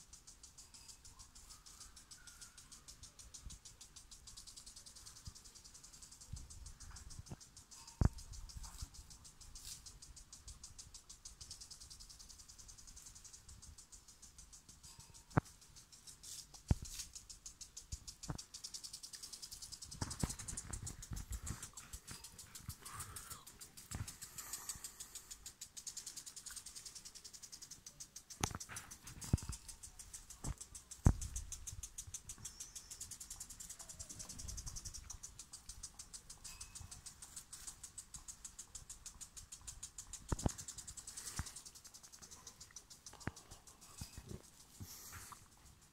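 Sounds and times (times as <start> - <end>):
crickets chirping: 0.0 - 45.9
sharp clicks: 2.5 - 45.8.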